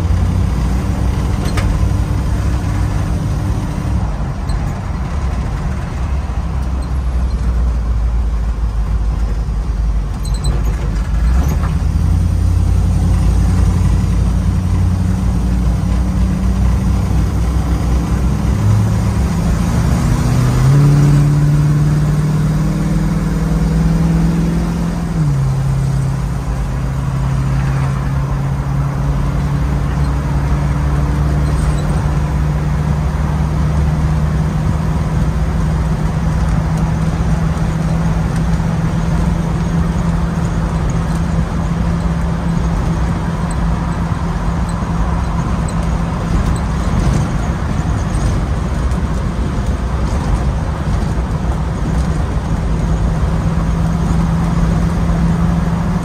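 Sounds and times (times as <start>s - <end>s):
road noise: 0.0s - 56.0s
truck engine: 0.0s - 56.0s.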